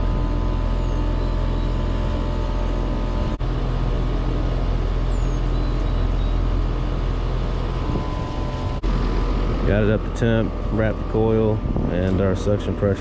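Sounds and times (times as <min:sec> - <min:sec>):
heat pump unit humming: 0:00.0 - 0:13.0.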